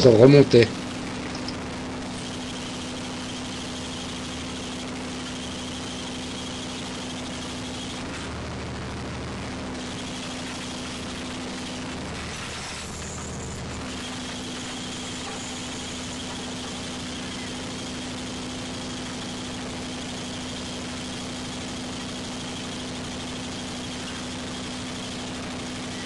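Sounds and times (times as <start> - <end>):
boat engine hum: 0.0 - 26.0
lower hum: 0.0 - 26.0
machinery high whine: 0.0 - 26.0.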